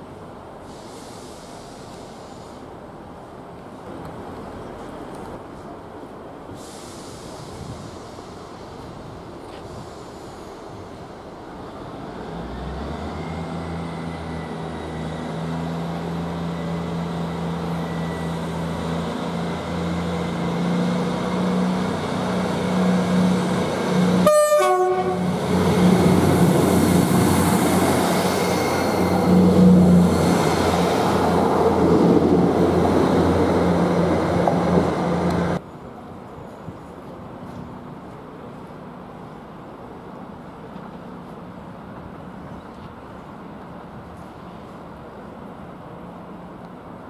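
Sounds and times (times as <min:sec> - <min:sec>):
diesel train engine running: 0:00.0 - 0:47.0.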